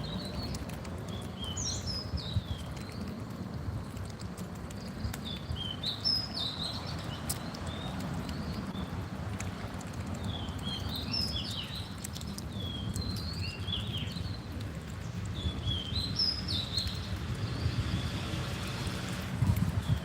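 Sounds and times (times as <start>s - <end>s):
wind on microphone: 0.0s - 7.2s, 10.2s - 20.0s
small birds chirping: 0.0s - 20.0s.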